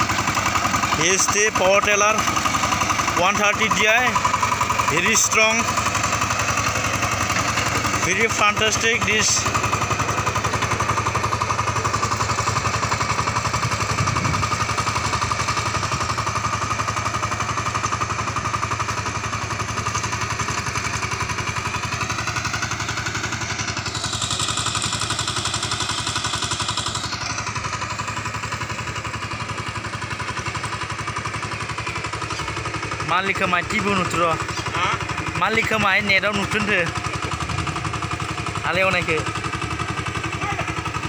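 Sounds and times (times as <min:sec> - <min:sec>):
diesel tiller engine running: 0:00.0 - 0:41.0.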